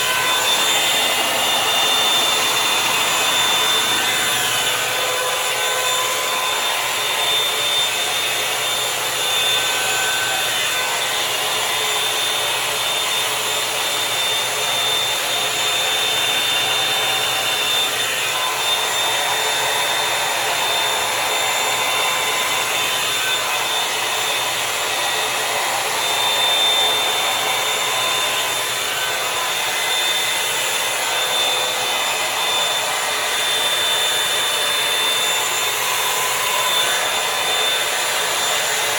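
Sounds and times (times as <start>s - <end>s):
hot-air brush blowing: 0.0s - 38.9s.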